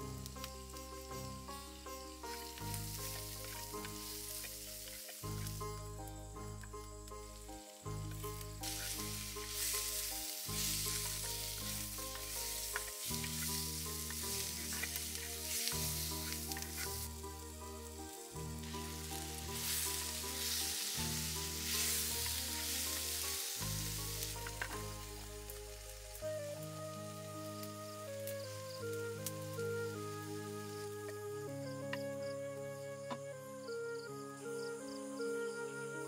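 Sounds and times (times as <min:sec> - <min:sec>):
food sizzling in a clay pot: 0:00.0 - 0:32.2
background music with low chords: 0:00.0 - 0:36.0.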